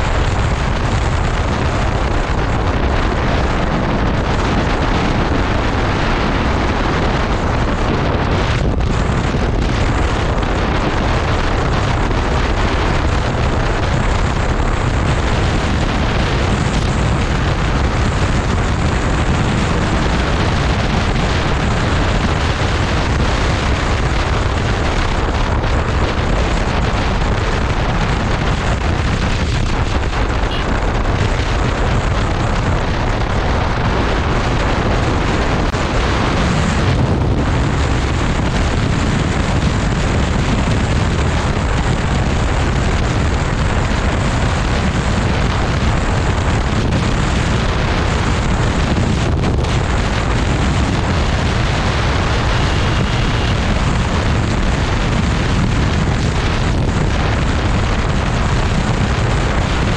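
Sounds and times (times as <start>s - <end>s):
road noise: 0.0s - 59.9s
vehicle engine: 0.0s - 59.9s
wind buffeting microphone: 0.0s - 59.9s.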